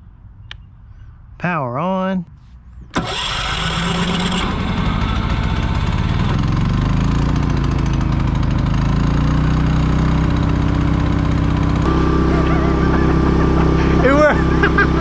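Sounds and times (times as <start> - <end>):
generator running: 2.9 - 15.0.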